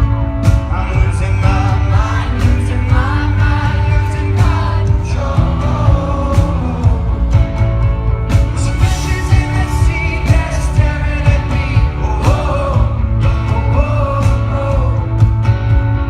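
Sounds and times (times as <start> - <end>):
male lead singer: 0.0 - 16.0
rock band playing live: 0.0 - 16.0.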